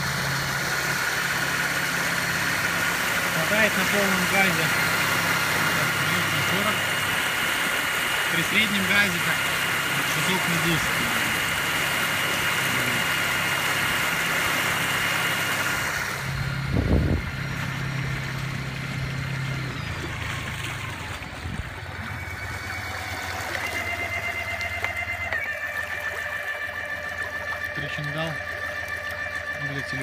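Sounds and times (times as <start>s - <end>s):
electric outboard motor whine: 0.0s - 30.0s
low steady hum: 0.0s - 30.0s
rushing water from boat wake: 0.0s - 30.0s.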